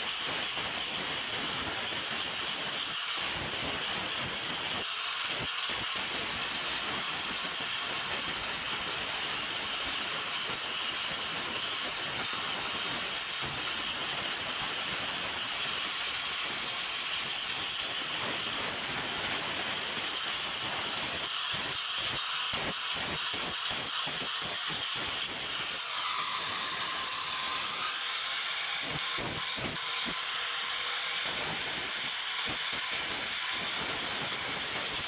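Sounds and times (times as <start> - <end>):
grinding hiss: 0.0 - 35.0
grinder motor whine: 0.1 - 35.0.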